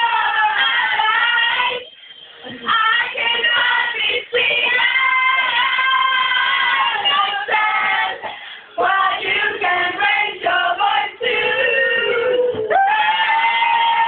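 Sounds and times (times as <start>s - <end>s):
girls singing in unison: 0.0s - 14.0s.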